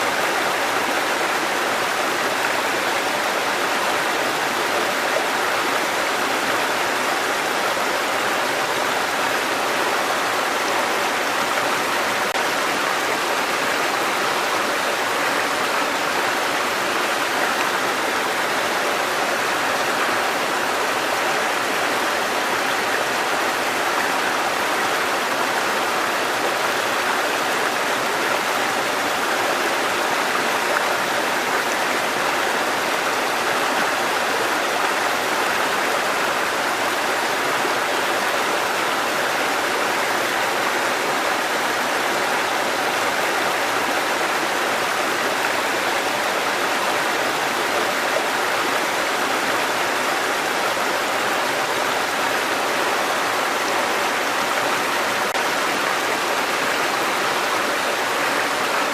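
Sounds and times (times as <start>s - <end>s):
stream water rushing over rocks: 0.0s - 58.9s.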